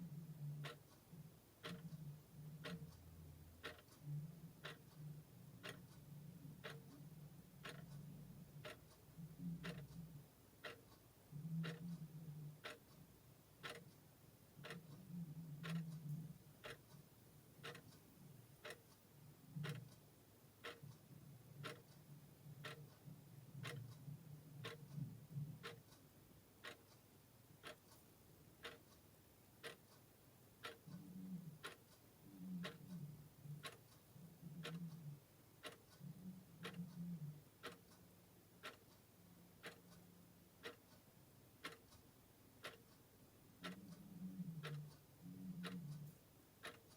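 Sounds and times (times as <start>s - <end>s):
clock ticking: 0.0s - 46.9s.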